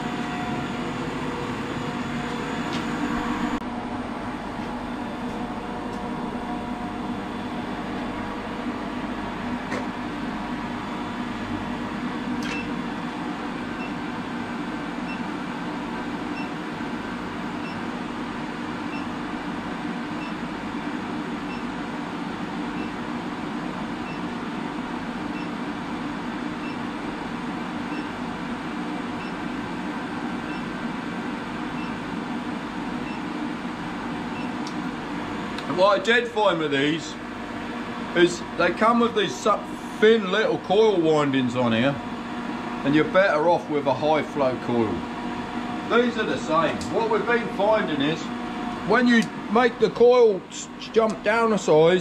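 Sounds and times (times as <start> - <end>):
induction heater humming: 0.0 - 52.0.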